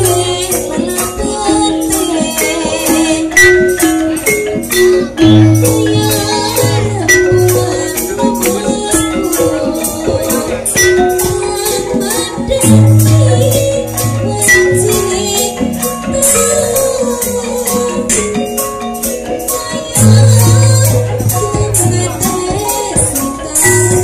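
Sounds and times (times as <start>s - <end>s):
drums: 0.0s - 24.0s
metallophones and pot gongs struck: 0.0s - 24.0s.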